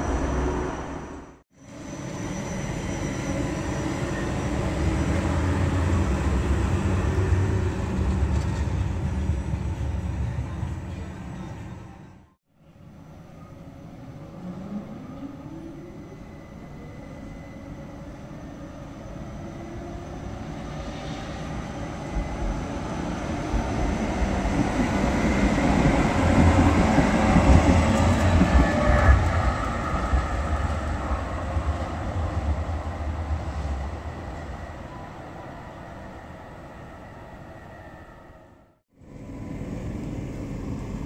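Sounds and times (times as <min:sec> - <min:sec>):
tram wheels rumbling on rails: 0:00.0 - 0:12.3, 0:14.0 - 0:37.7.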